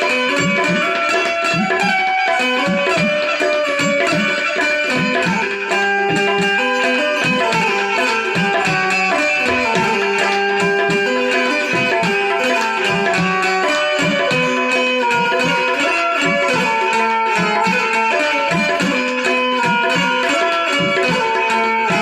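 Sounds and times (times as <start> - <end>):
banjo melody: 0.0 - 22.0
tabla rhythm: 0.0 - 22.0.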